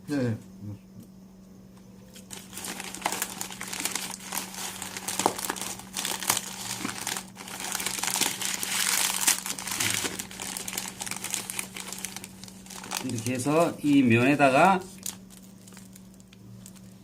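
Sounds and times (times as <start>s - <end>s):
plastic packet crinkling: 2.1s - 17.0s.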